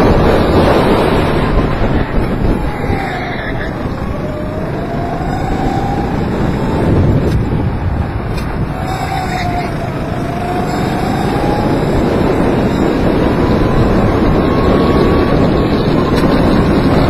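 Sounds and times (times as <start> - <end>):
chassis noise: 0.0 - 17.0
go-kart engine running: 0.0 - 17.0
wind rush: 0.0 - 17.0.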